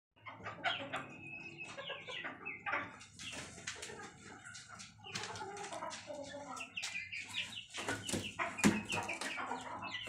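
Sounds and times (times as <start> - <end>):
chickens clucking: 0.2 - 10.0.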